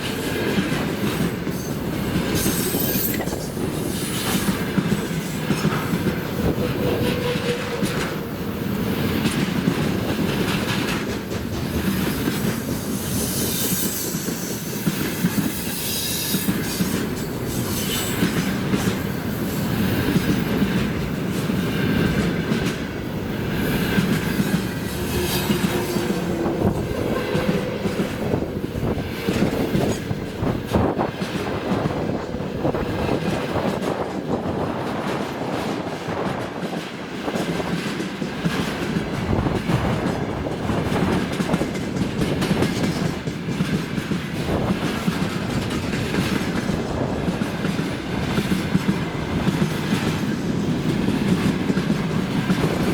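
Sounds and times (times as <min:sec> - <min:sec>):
train wheels clattering: 0:00.0 - 0:52.9.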